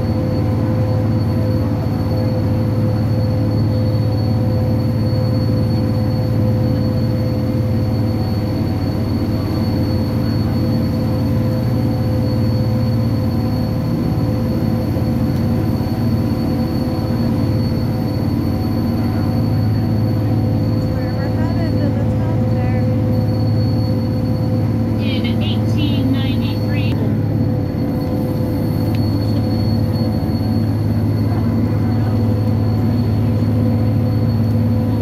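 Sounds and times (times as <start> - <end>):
faint high whine: 0.0 - 35.0
railcar low rumble: 0.0 - 35.0.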